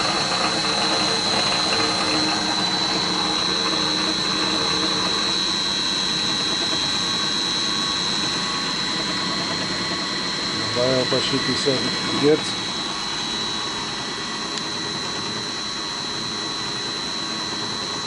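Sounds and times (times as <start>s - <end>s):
drill press motor running: 0.0s - 18.0s
high-pitched whine: 0.0s - 18.0s.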